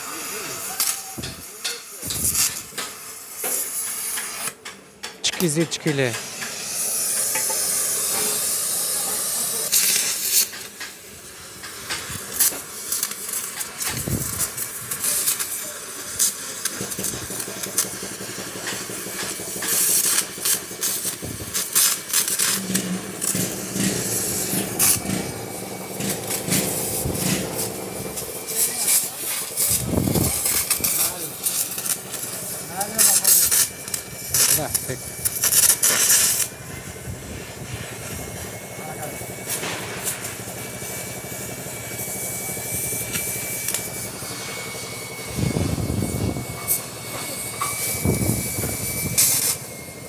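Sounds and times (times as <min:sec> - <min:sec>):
welding torch flame hissing: 0:00.0 - 0:50.0.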